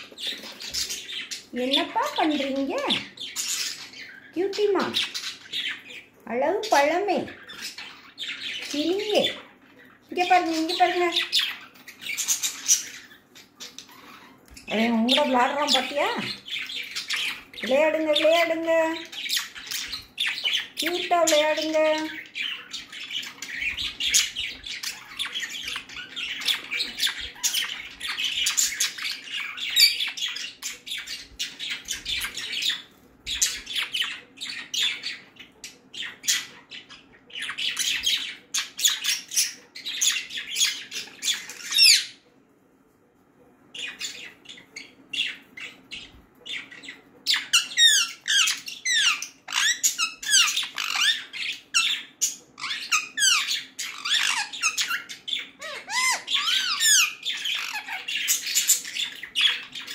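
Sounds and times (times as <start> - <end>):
budgerigar chirps and squawks: 0.0 - 18.3, 19.0 - 42.2, 43.8 - 59.9.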